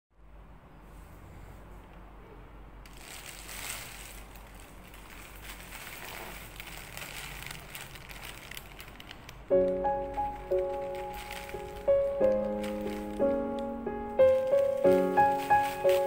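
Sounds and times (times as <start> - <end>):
low steady hum: 0.2 - 16.0
plastic wrapping crinkling: 2.9 - 16.0.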